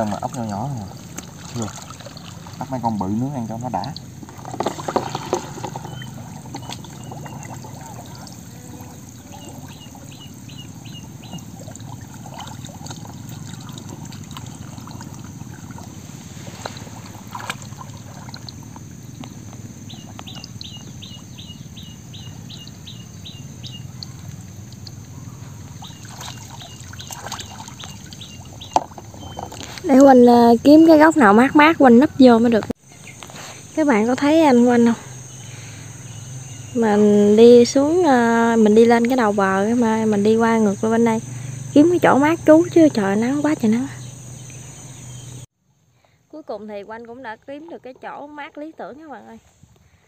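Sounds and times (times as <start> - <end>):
bird chirping: 0.0 - 16.0, 19.0 - 32.2, 32.8 - 45.5
water sloshing and trickling: 0.0 - 45.5, 46.4 - 49.8.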